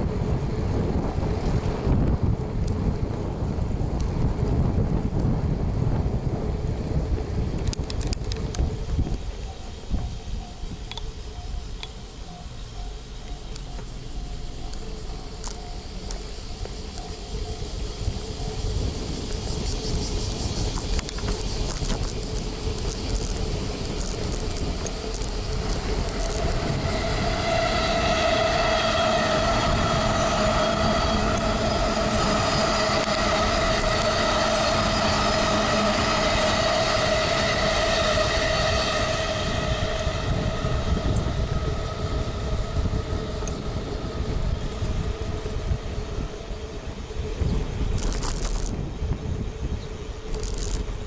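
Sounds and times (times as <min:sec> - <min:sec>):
low rumble of wind: 0:00.0 - 0:51.0
train passing with high whine: 0:00.0 - 0:51.0.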